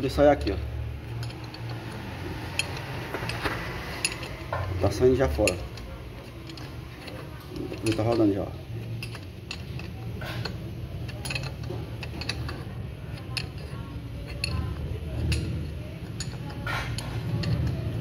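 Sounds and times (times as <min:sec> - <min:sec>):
gear puller metal clicks and creaks: 0:00.0 - 0:18.0.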